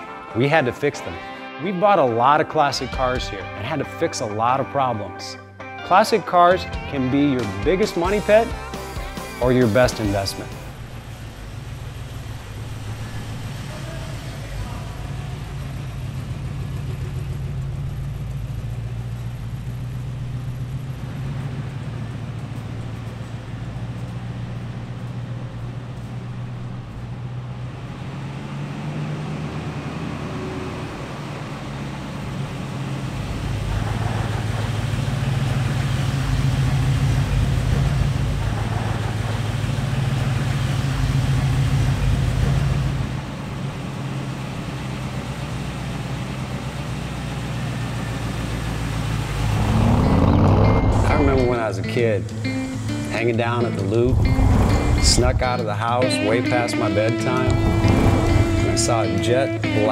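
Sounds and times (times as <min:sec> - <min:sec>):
car engine running: 0:06.9 - 0:59.9.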